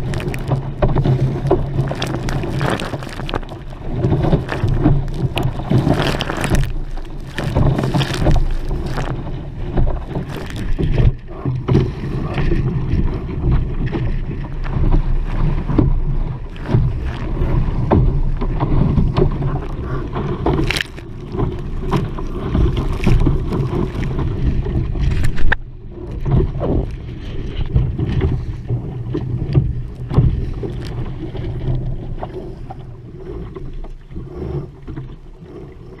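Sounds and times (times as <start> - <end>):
water splashing against hull: 0.0 - 36.0
wind buffeting microphone: 0.0 - 36.0.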